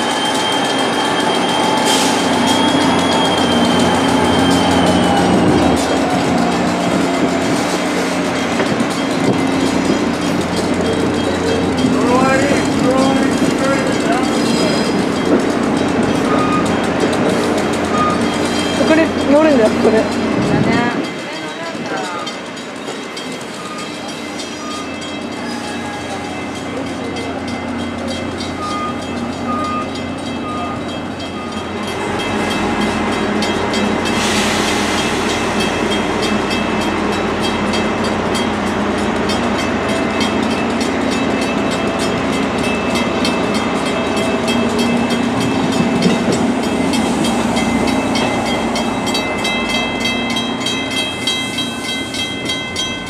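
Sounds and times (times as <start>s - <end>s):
diesel locomotive engine: 0.0s - 53.0s
wheels rumbling on rail: 0.0s - 53.0s.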